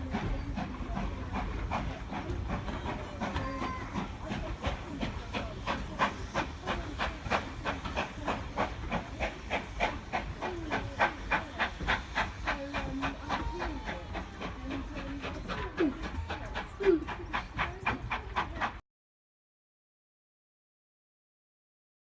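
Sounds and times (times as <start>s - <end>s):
steam hissing: 0.0s - 18.8s
steam locomotive exhaust beats: 0.0s - 18.8s.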